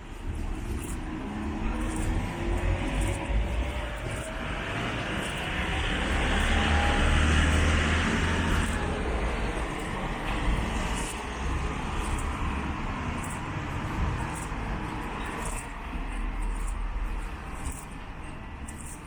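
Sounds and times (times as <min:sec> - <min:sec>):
vehicle passing by: 0:00.3 - 0:18.4.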